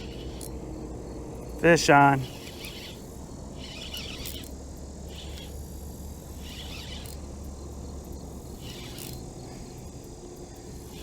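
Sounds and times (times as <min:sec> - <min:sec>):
insects calling in raspy bursts: 0:00.0 - 0:11.0
low steady outdoor rumble: 0:00.0 - 0:11.0.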